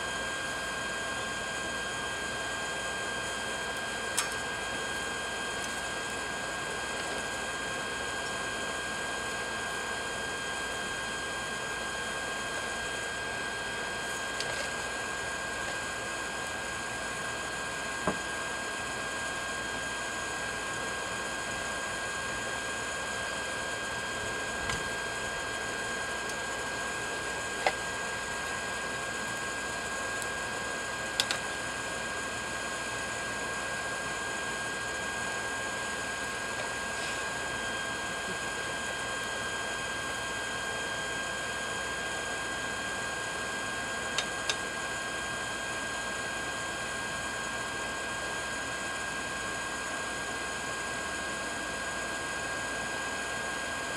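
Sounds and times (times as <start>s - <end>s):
electric air blower whirring: 0.0s - 46.4s.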